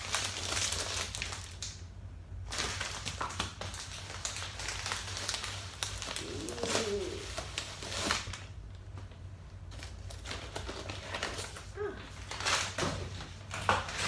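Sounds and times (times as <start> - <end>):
plastic mailer bag crinkling: 0.0 - 1.8, 2.4 - 14.0.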